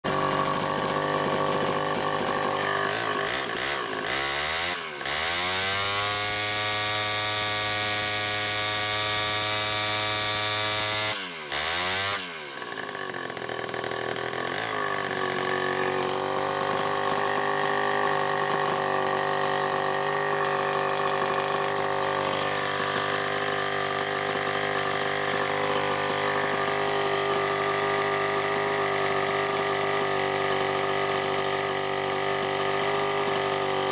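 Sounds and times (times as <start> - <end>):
two-stroke grinder engine revving: 0.0 - 33.9.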